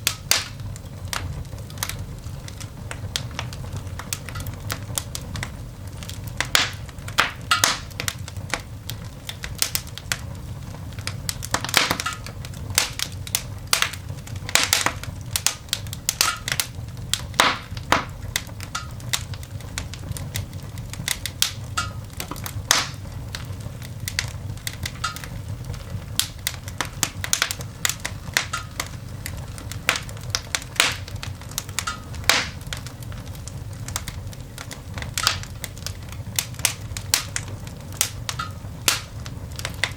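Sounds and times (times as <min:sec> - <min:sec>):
coal fire crackling and popping: 0:00.0 - 0:39.9.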